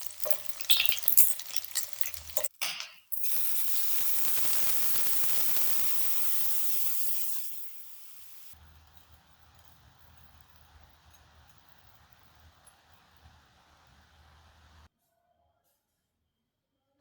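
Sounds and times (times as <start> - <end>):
food sizzling in oil: 0.0 - 14.9
oil crackling and popping: 0.0 - 14.9.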